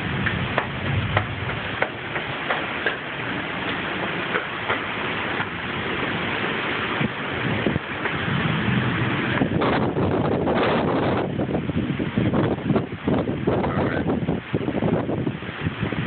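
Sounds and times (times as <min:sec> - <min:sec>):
heavy rain pouring: 0:00.0 - 0:16.0
low rumbling: 0:00.0 - 0:16.0
raindrops spattering on surfaces: 0:00.0 - 0:16.0.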